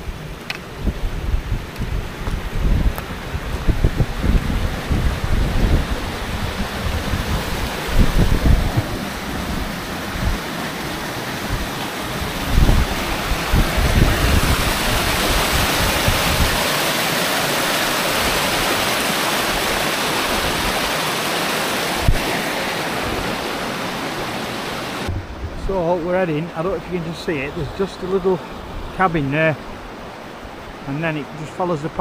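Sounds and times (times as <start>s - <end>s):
wind buffeting microphone: 0.0s - 21.0s, 21.8s - 27.9s
rushing water: 0.0s - 32.0s.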